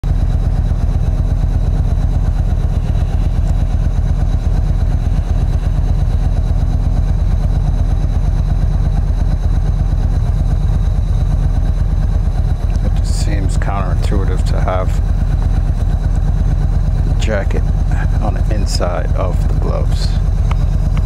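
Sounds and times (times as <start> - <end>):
motorcycle engine idling: 0.1 - 21.0.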